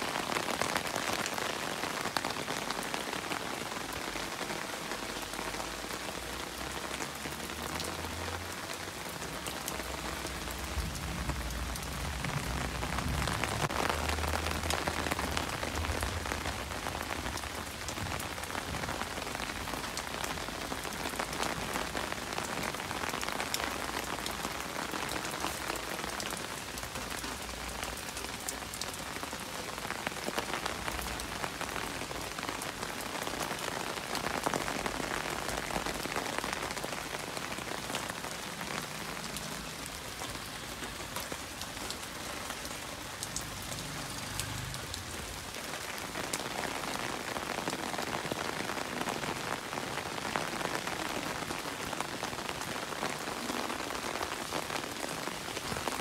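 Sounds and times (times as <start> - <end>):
rain falling on puddles and leaves: 0.0 - 56.0.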